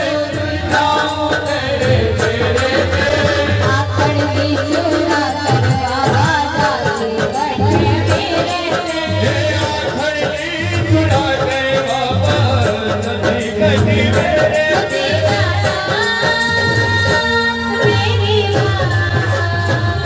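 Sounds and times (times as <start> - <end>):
instrumental accompaniment: 0.0 - 20.0
woman singing into microphone: 0.0 - 20.0.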